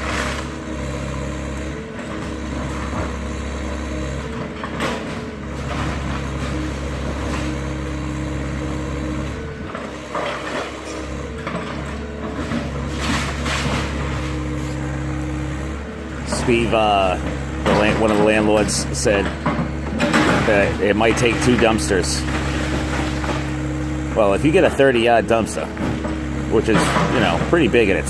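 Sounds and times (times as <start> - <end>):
demolition noise bursts: 0.0 - 28.0
diesel engine running: 0.0 - 28.0.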